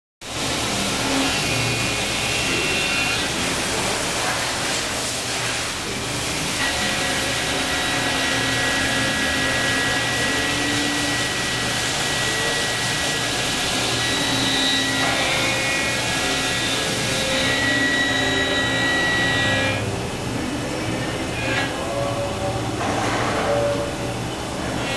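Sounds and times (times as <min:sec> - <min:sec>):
milling machine whining: 0:00.3 - 0:04.3, 0:05.8 - 0:24.9.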